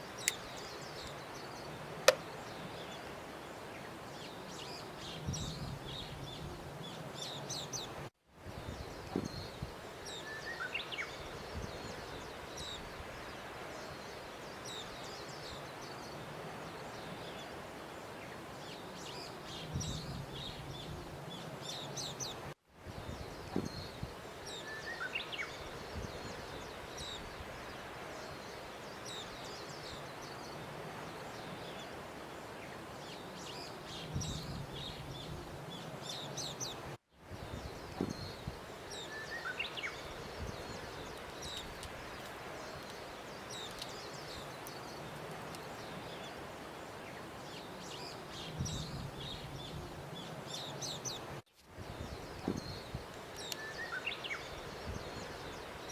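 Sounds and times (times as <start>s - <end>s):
small birds chirping: 0.0s - 8.0s, 8.7s - 55.9s
steady outdoor hiss: 0.0s - 55.9s.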